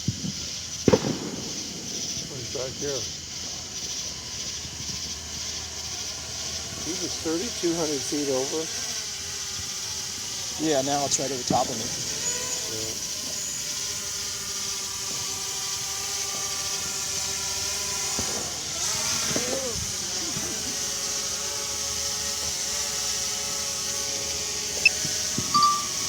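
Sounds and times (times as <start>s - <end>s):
steady high hiss: 0.0s - 26.0s
drone propeller whine: 1.6s - 26.0s.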